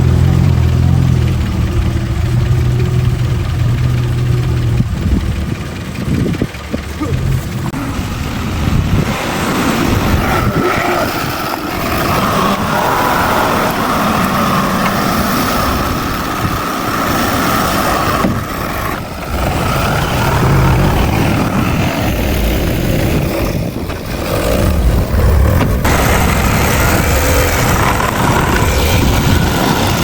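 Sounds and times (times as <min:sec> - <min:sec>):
heavy machinery diesel engines: 0:00.0 - 0:30.0.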